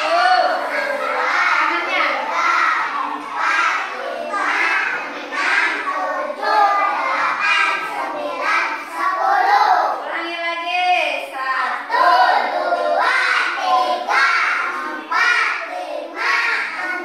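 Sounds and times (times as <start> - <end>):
children and adult singing: 0.0 - 10.9, 11.7 - 17.0.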